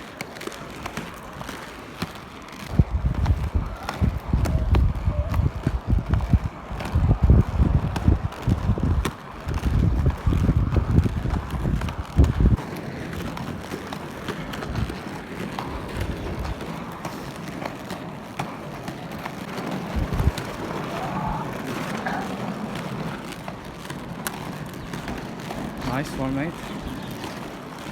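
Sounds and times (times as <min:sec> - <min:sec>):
wind buffeting microphone: 0:02.6 - 0:17.6, 0:19.8 - 0:27.9.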